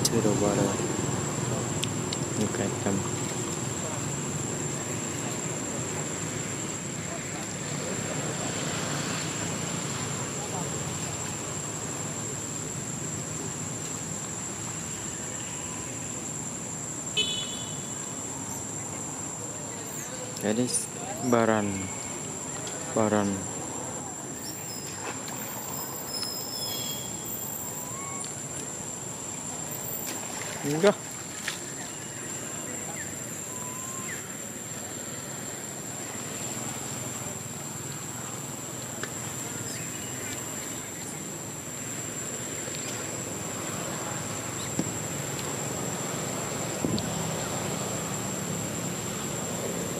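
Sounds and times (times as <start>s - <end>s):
outdoor background hiss: 0.0s - 49.9s.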